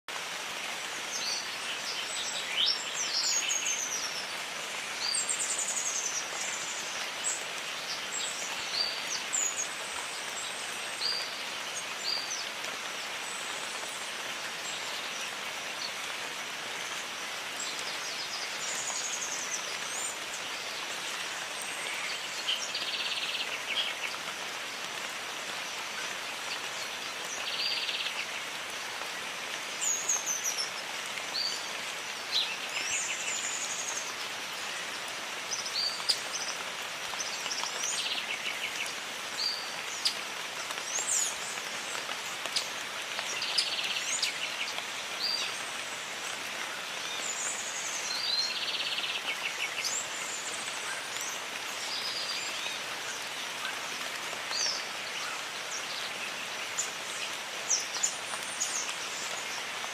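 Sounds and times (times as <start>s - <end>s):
steady rain hiss: 0.1s - 59.9s.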